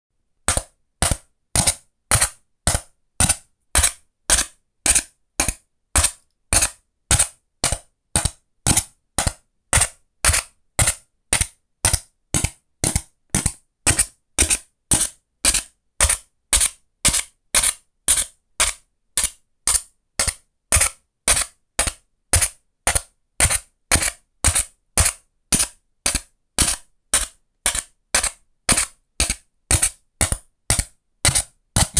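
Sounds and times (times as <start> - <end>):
toothpick popping through foam tray: 0.5 - 31.9.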